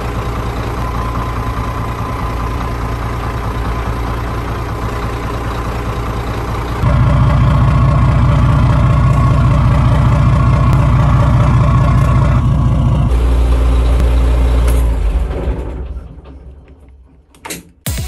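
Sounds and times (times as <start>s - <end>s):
diesel boat engine idling: 0.0s - 14.6s.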